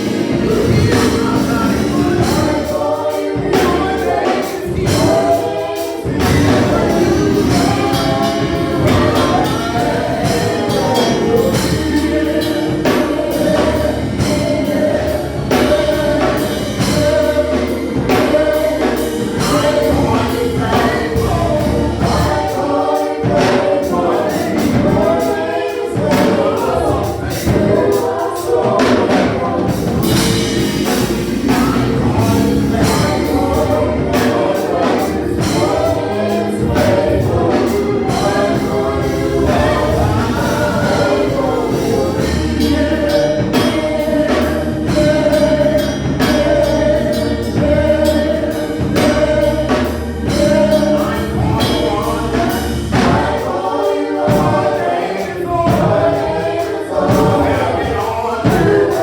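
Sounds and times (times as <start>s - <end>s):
band with bass and beat: 0.0s - 59.0s
gospel choir singing: 0.0s - 59.0s.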